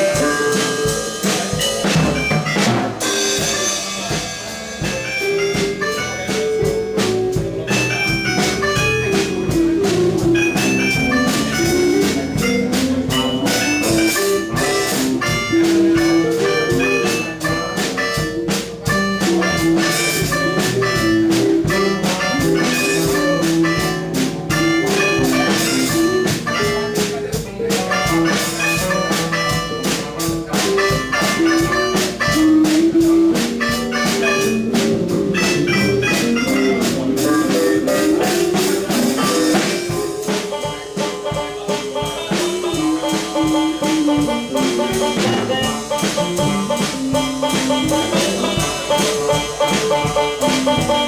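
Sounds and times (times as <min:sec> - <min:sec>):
drum kit: 0:00.0 - 0:51.0
rock band playing: 0:00.0 - 0:51.0.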